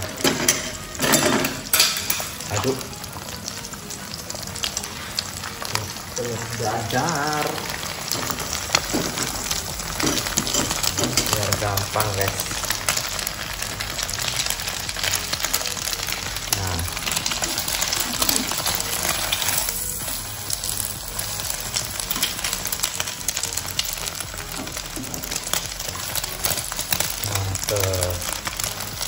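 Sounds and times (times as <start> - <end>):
egg sizzling in hot oil: 0.0 - 29.0.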